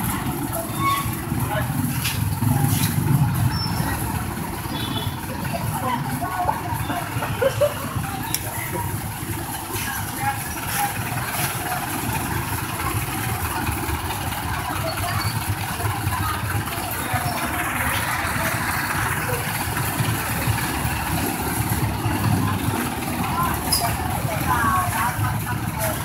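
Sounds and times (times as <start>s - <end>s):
street traffic: 0.0s - 26.0s
vehicle engine idling: 0.0s - 26.0s.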